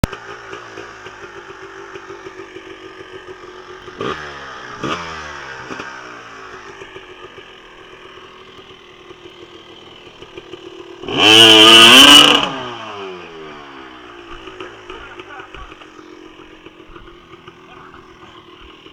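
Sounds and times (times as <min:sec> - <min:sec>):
dirt bike engines revving: 0:00.0 - 0:18.9
loud hard dirt bike rev: 0:00.0 - 0:18.9.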